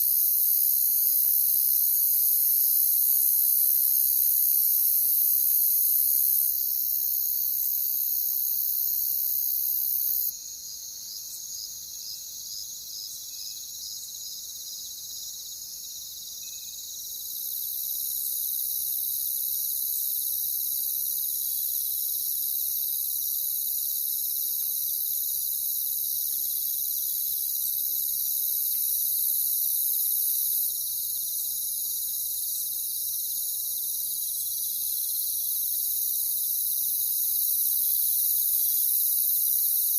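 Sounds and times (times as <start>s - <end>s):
crickets trilling: 0.0s - 39.9s
single cricket chirping: 0.0s - 39.9s.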